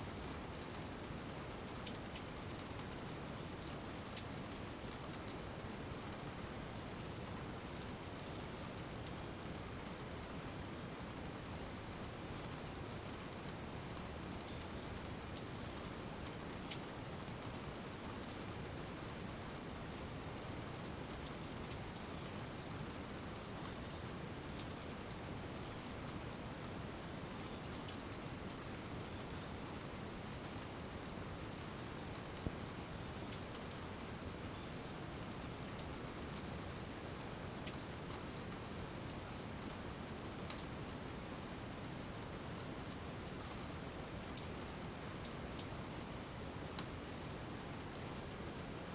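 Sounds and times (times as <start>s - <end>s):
steady rain falling: 0.0s - 48.9s
light drip ticks: 0.3s - 48.4s.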